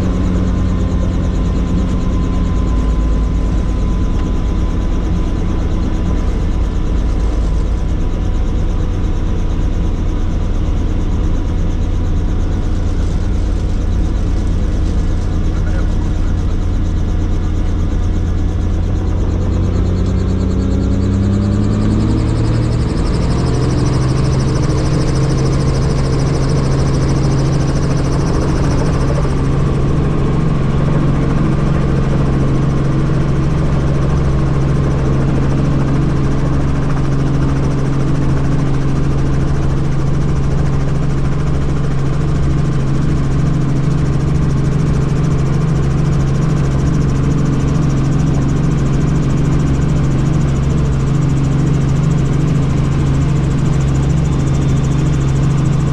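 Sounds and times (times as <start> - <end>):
helicopter engine and rotor: 0.0 - 55.9
high whine: 0.0 - 55.9.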